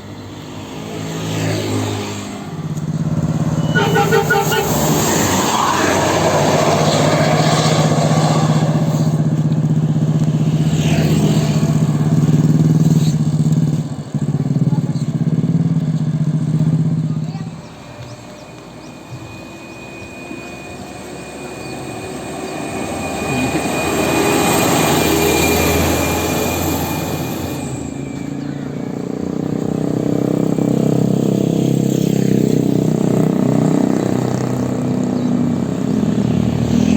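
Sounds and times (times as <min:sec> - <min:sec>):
diesel engine passing: 0:00.0 - 0:36.9
vehicle approaching: 0:00.0 - 0:36.9.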